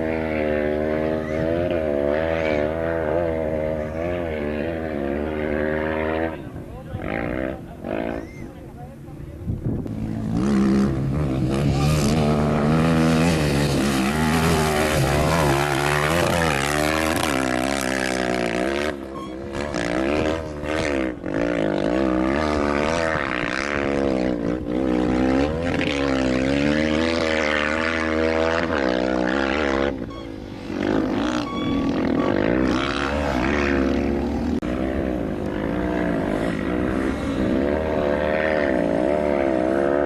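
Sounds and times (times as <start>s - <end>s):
rally engine revving: 0.0s - 40.0s.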